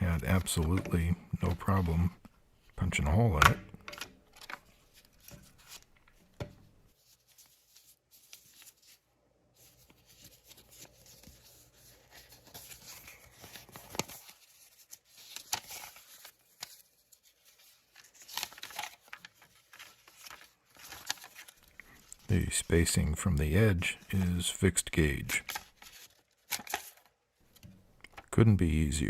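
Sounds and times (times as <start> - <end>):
paper rustling: 2.9 - 28.4.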